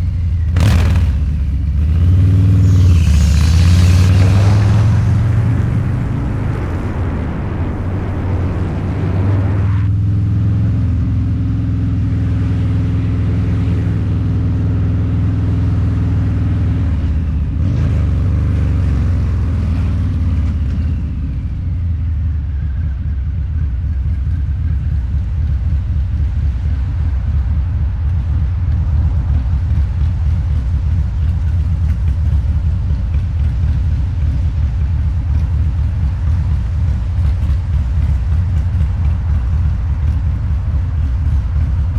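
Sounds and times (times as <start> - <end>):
motorcycle engine rumbling: 0.0 - 10.0, 12.0 - 41.9.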